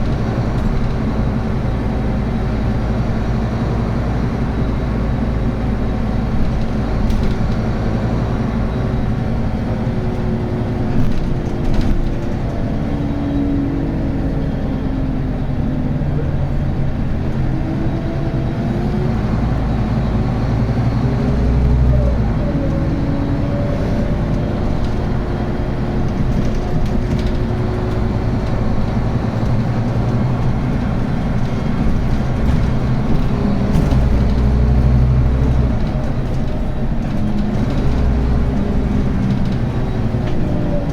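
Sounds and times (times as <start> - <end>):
diesel bus running: 0.0 - 40.9.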